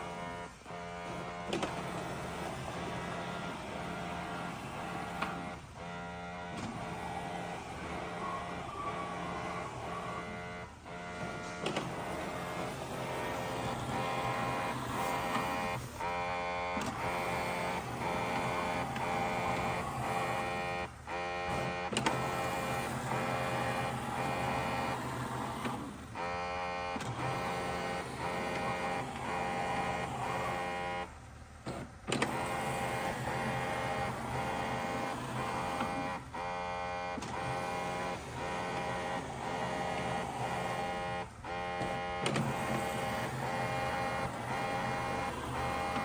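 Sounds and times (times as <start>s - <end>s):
electric motor whine: 0.0s - 46.0s.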